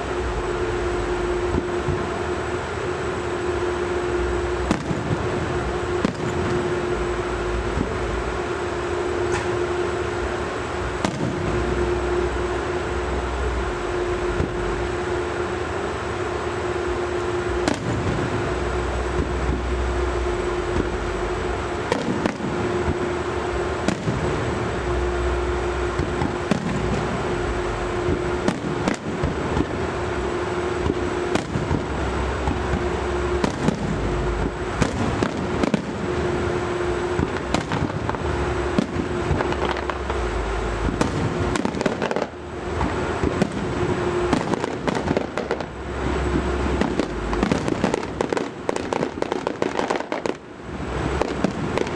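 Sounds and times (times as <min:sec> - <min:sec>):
fireworks bangs: 0:00.0 - 0:51.9
steady hum: 0:00.0 - 0:51.9.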